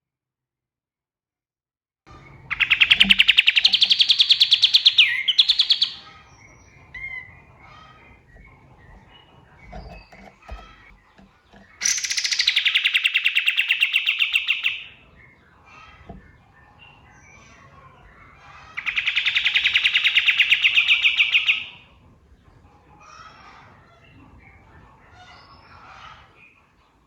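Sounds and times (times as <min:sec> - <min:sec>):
faint bird chirps: 0:02.1 - 0:27.0
songbird rapid trills: 0:02.2 - 0:26.0.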